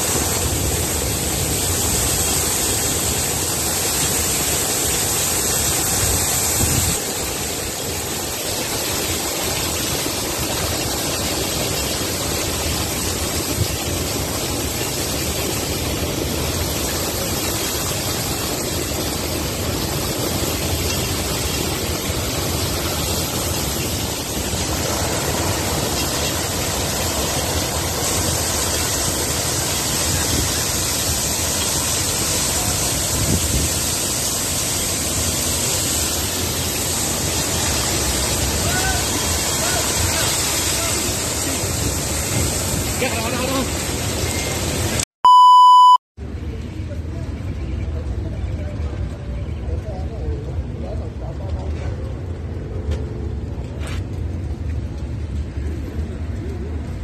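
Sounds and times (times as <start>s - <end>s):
heavy rain pouring: 0.0s - 45.1s, 46.2s - 57.0s.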